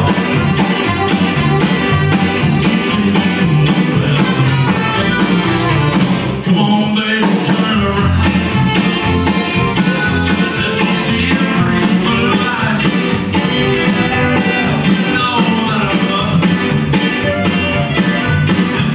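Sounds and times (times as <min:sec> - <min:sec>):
button accordion: 0:00.0 - 0:06.4, 0:08.2 - 0:18.9
drum kit steady beat: 0:00.0 - 0:18.9
electric guitar: 0:00.0 - 0:18.9
keyboard: 0:00.0 - 0:18.9.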